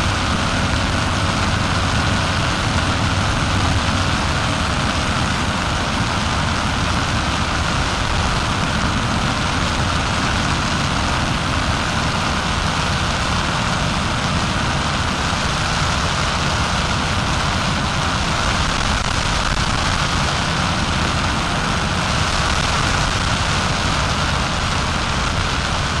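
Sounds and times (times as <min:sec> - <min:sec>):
constant rushing noise: 0:00.0 - 0:26.0
paramotor engine running: 0:00.0 - 0:26.0.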